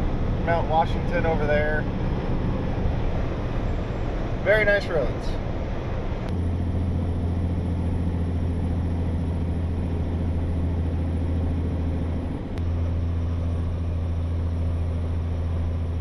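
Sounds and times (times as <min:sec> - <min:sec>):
road noise: 0:00.0 - 0:16.0
truck engine drone: 0:00.0 - 0:16.0.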